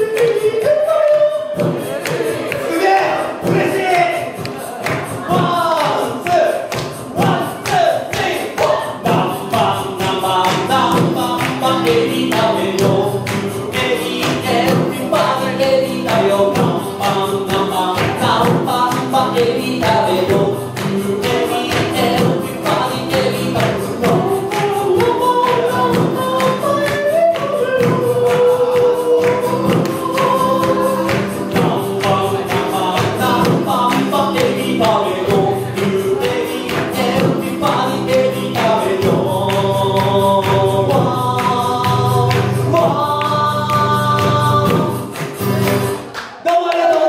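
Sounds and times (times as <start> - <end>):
acoustic guitar strumming: 0.0 - 46.2
person singing: 0.0 - 47.0.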